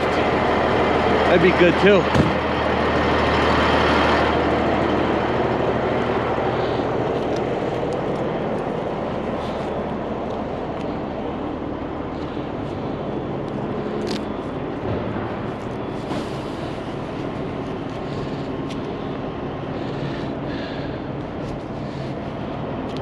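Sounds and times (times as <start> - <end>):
truck diesel engine rumbling: 0.0 - 23.0.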